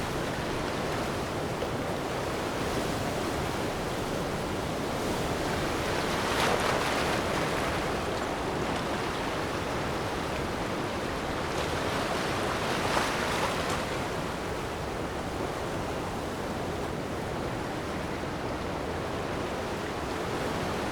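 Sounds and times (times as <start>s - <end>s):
ocean waves on shore: 0.0s - 20.9s.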